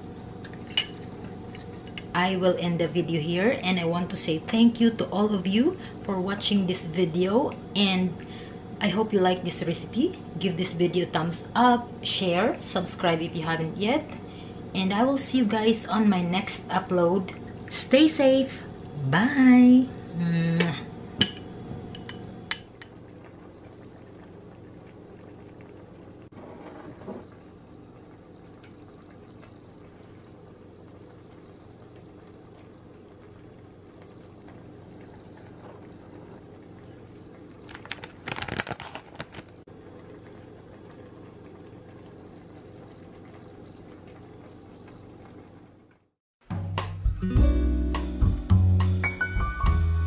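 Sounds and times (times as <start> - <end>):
kitchen room hum: 0.0 - 46.2.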